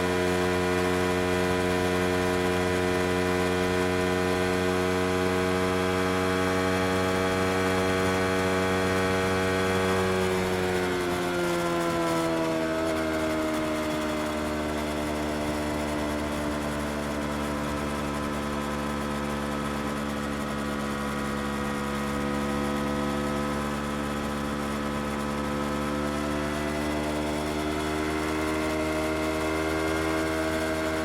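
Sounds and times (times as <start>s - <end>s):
motorcycle engine revving down: 0.0s - 31.0s.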